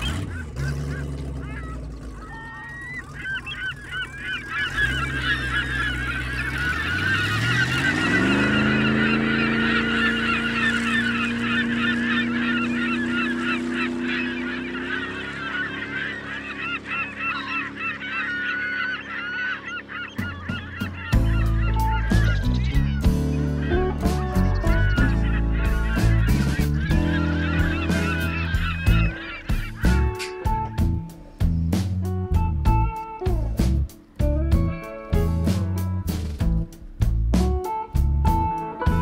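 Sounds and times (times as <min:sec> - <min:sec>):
flock of birds calling: 0:00.0 - 0:39.0
low drone rising in pitch: 0:00.0 - 0:39.0.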